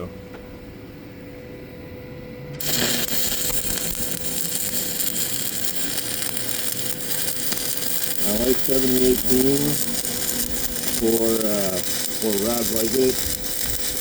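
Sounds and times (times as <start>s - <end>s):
welding arc crackling hiss: 2.6s - 14.0s.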